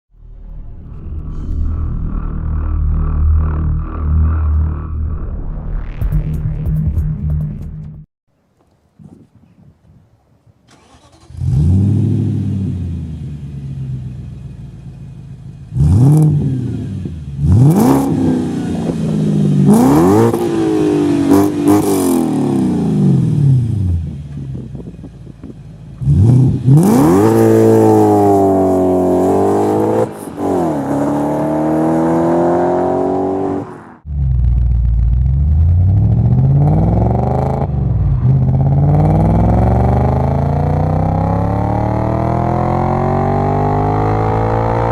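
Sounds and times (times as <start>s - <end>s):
car engine revving: 0.2s - 7.6s, 10.7s - 44.9s.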